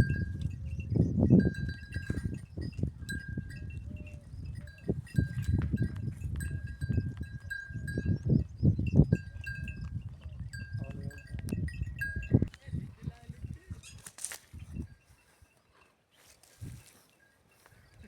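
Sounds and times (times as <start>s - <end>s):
livestock neck bells ringing: 0.0s - 14.0s, 16.8s - 18.0s.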